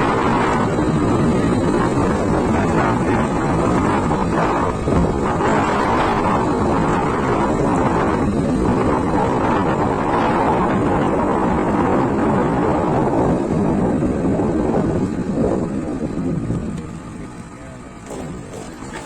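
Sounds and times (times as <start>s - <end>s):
scooter engine: 0.0s - 19.0s.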